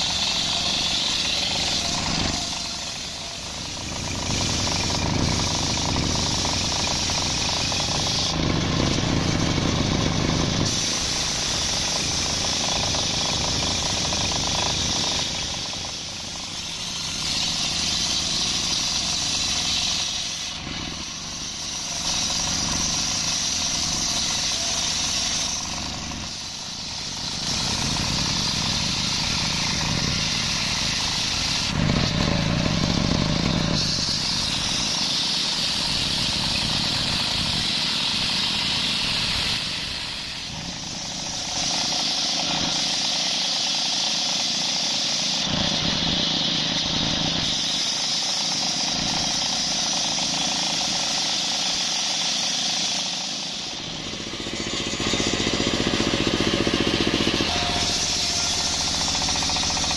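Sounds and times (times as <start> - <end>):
circular saw cutting log: 0.0 - 59.9
engine running: 0.0 - 59.9.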